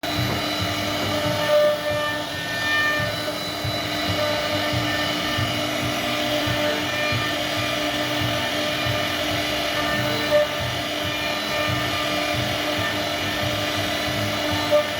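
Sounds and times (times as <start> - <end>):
router cutting wood: 0.0 - 14.9.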